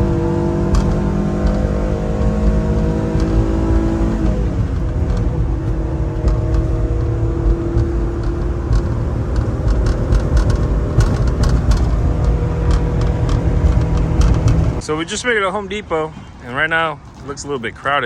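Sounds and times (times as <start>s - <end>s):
road rumble: 0.0s - 18.0s
small truck engine running: 0.0s - 18.0s.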